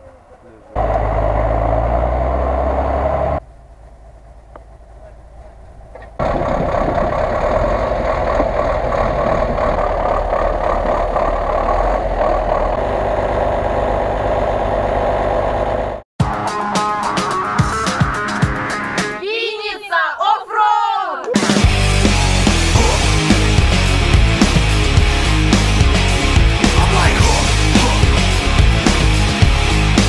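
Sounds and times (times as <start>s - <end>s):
truck engine running: 0.0s - 16.0s, 21.6s - 30.0s.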